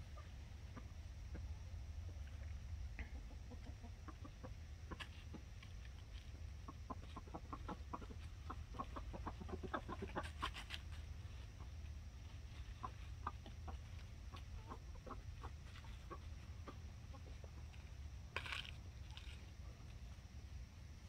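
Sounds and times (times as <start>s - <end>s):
chickens clucking softly: 0.0s - 21.0s.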